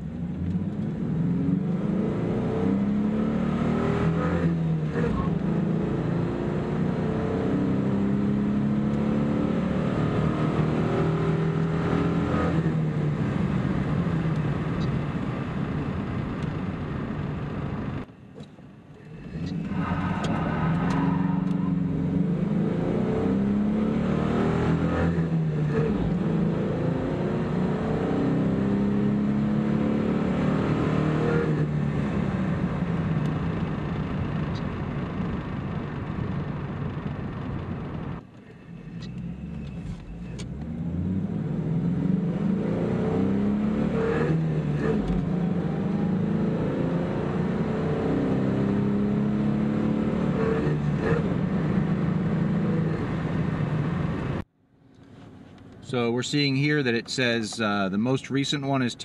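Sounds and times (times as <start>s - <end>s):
car engine accelerating from inside cabin: 0.1s - 18.0s, 19.0s - 38.2s, 38.9s - 54.5s.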